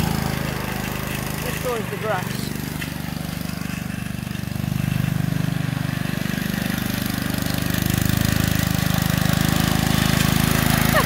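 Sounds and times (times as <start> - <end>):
ride-on mower engine running: 0.0 - 11.0.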